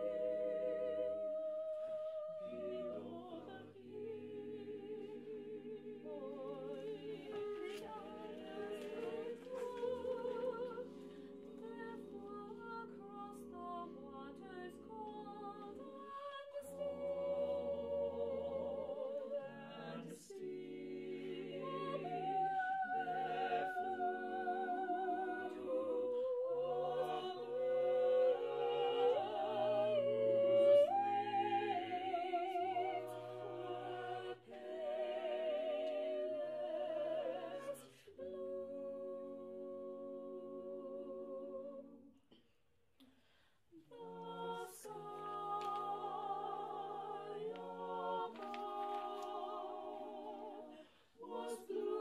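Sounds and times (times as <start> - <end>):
choir singing unaccompanied: 0.0 - 42.1, 43.8 - 52.0.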